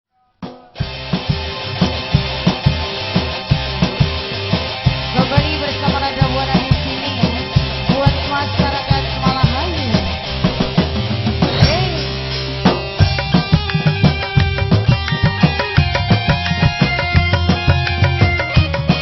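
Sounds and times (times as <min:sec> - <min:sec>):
steady drum beat: 0:00.4 - 0:19.0
bass: 0:00.7 - 0:19.0
live band music: 0:00.7 - 0:19.0.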